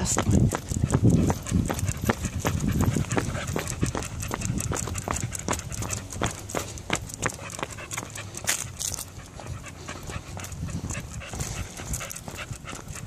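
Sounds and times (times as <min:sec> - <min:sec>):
dog panting: 0:00.0 - 0:13.0
footsteps on concrete: 0:00.0 - 0:13.0.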